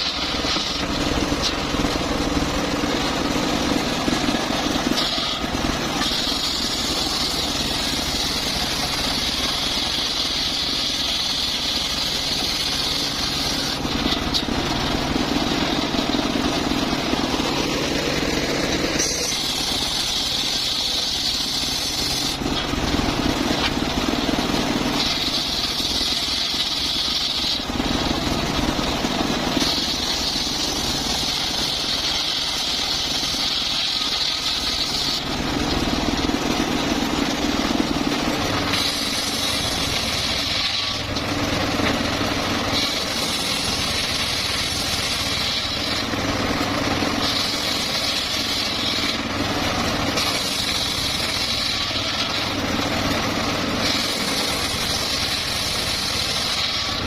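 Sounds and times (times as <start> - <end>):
circular saw running: 0.0 - 57.0
high-pitched saw cutting wood: 0.0 - 57.0.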